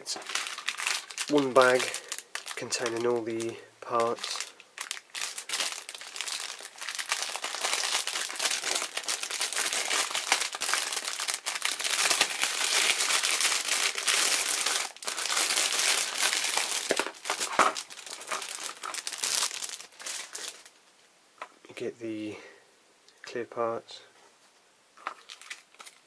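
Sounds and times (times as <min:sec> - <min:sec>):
plastic bag crinkling: 0:00.0 - 0:20.7, 0:25.0 - 0:26.0.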